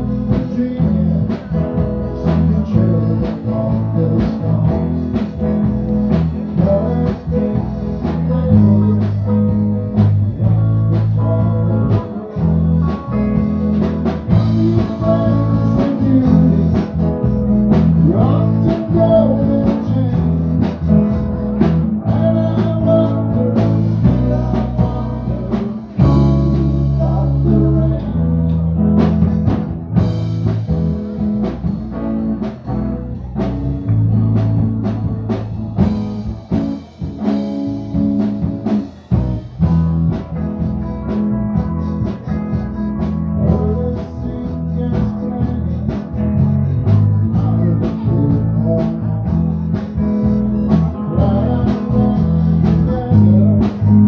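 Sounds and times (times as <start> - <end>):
live band playing: 0.0 - 54.0
accordion: 1.0 - 54.0.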